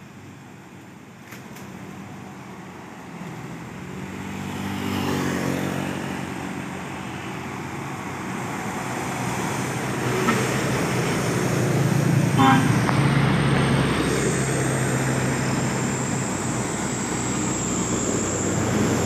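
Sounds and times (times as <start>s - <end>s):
diesel truck engines: 0.0s - 19.0s
motorcycle passing by: 3.4s - 19.0s.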